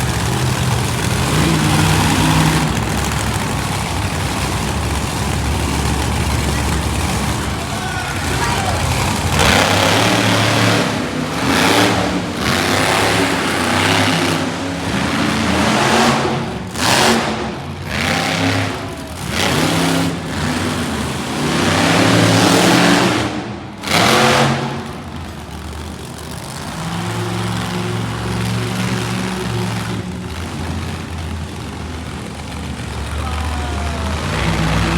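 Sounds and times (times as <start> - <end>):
monster truck engine revving: 0.0 - 34.9.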